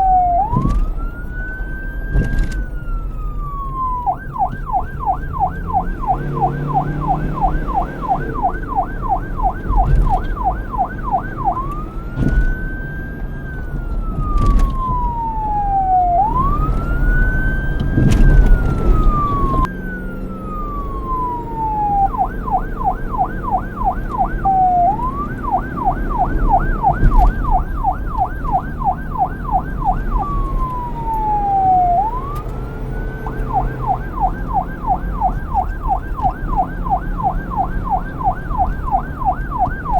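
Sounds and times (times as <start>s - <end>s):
police siren yelp and wail: 0.0s - 39.9s
road traffic rumble: 0.0s - 39.9s.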